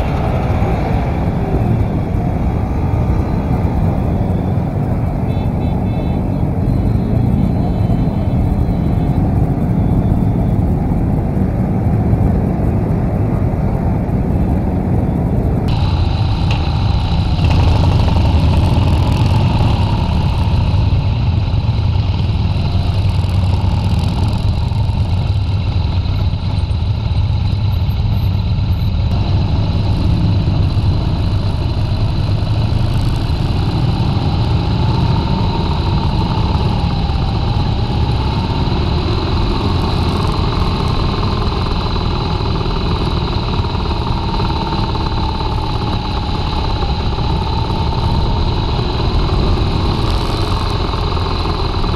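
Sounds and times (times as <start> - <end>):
motorcycle engine running: 0.0 - 51.9
wind rumble on microphone: 0.0 - 51.9.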